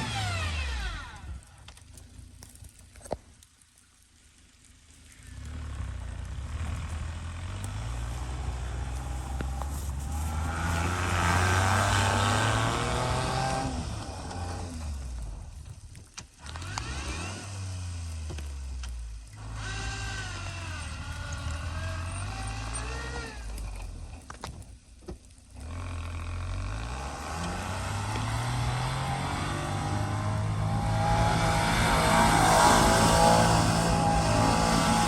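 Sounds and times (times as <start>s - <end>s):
small truck engine pulling: 0.0s - 3.2s, 5.0s - 35.0s.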